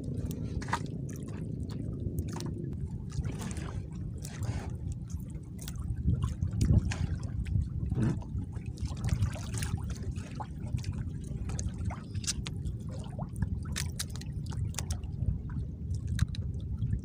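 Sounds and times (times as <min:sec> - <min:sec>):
water lapping against boat: 0:00.0 - 0:17.0.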